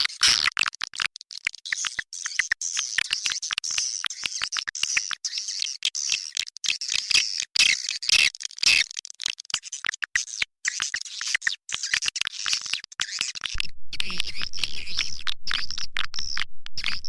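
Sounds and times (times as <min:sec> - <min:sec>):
high-pitched bird chirps and clicks: 0:00.0 - 0:17.0.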